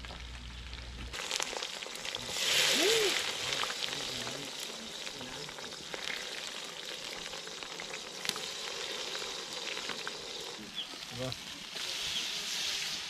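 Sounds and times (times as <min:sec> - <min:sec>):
oil sizzling in a cauldron: 0:00.0 - 0:13.0.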